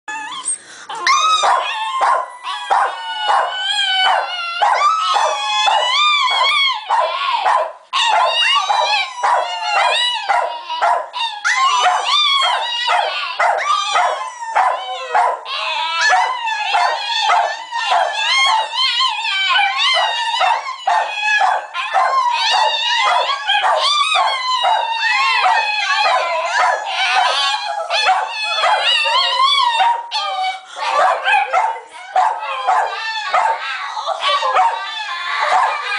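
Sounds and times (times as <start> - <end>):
dog yipping and whining: 0.1 - 7.3, 8.0 - 35.9.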